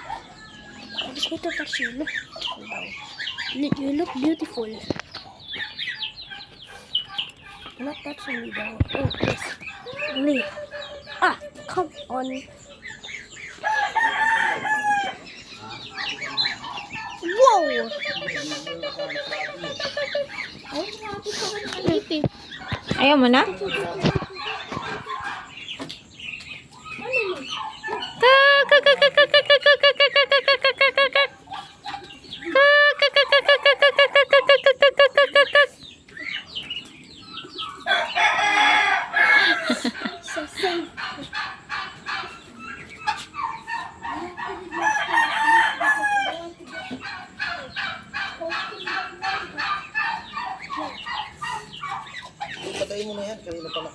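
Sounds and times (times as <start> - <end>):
domestic fowl calling: 0.0 - 36.6, 37.4 - 53.9.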